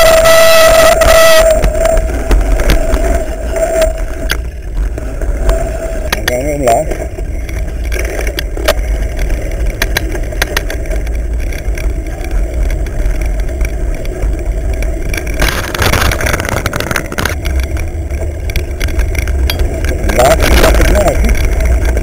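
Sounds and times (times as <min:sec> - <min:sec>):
bike rattling over dirt trail: 0:00.0 - 0:22.0.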